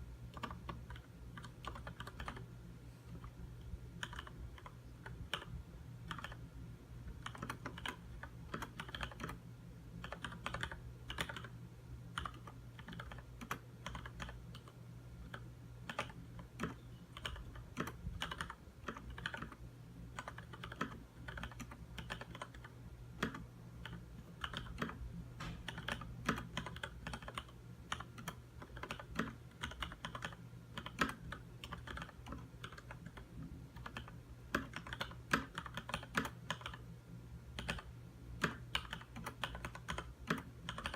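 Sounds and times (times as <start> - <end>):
mechanical keyboard typing: 0.3 - 2.5, 3.1 - 9.4, 10.0 - 25.0, 25.6 - 36.9, 37.5 - 40.9.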